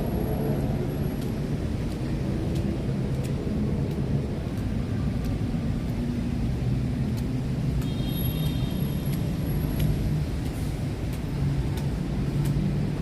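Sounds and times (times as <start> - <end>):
city road traffic rumble: 0.0 - 13.0.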